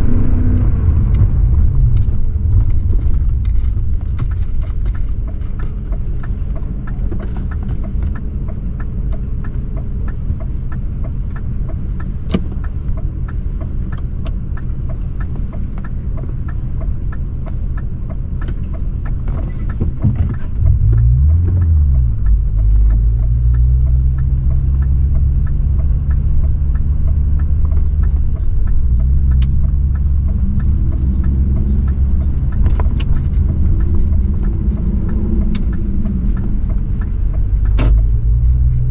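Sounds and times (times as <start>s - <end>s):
car exhaust drone while driving: 0.0s - 38.9s
light ticks: 1.0s - 38.9s.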